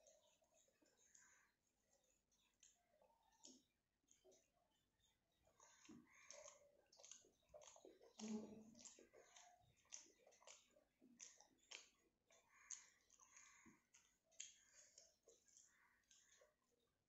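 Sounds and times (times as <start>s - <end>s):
chewing and mouth smacks: 0.0s - 17.0s.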